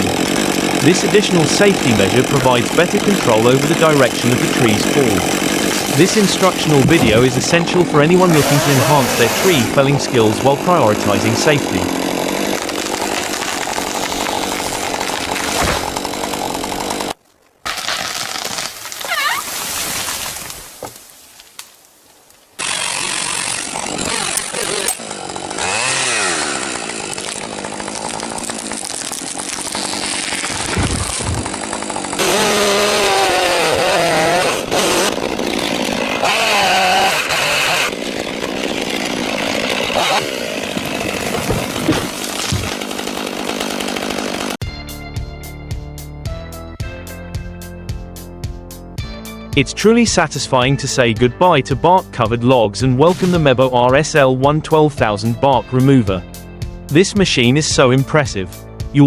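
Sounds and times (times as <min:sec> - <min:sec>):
chainsaws revving and cutting wood: 0:00.0 - 0:19.4, 0:22.6 - 0:44.6, 0:53.0 - 0:59.0.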